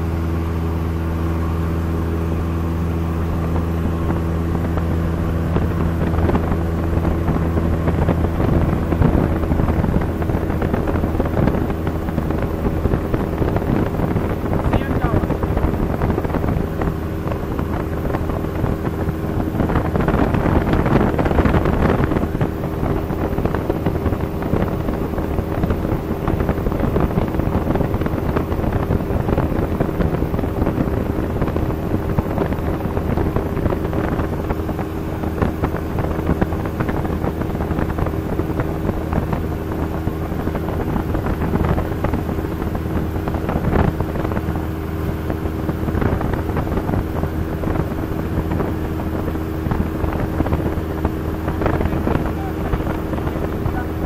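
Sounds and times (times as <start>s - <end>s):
propeller plane engine droning: 0.0s - 54.0s
wind noise over airframe: 0.0s - 54.0s.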